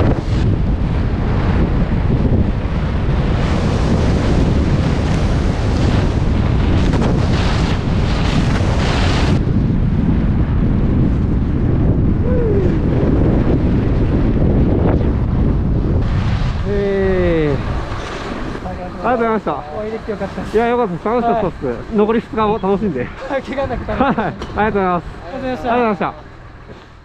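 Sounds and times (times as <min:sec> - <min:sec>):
wind buffeting microphone: 0:00.0 - 0:26.7.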